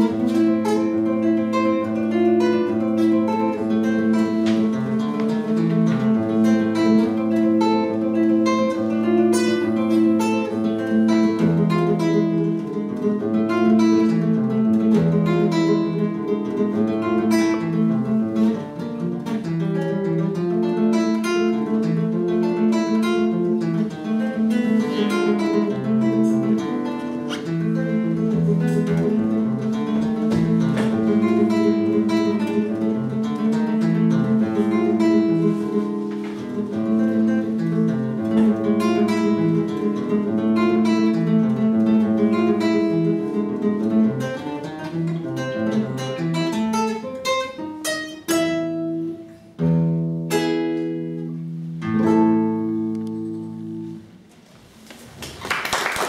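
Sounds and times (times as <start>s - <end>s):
classical guitar fingerstyle: 0.0s - 55.7s.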